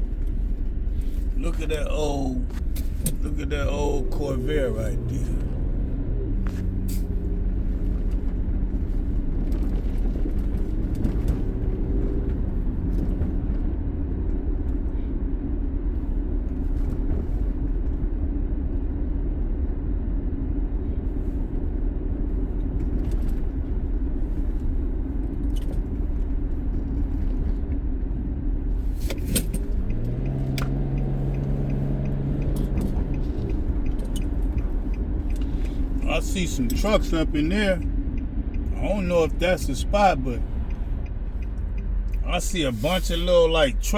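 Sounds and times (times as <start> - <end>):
car road and engine rumble: 0.0 - 43.9
engine hum: 0.0 - 43.9.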